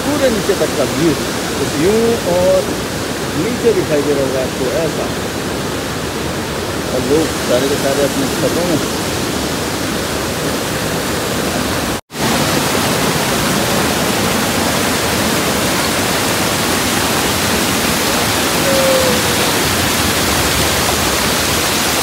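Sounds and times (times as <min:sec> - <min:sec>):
stream pouring down stone steps: 0:00.0 - 0:05.0, 0:06.9 - 0:10.2, 0:11.1 - 0:22.0
heavy rain: 0:00.0 - 0:22.0.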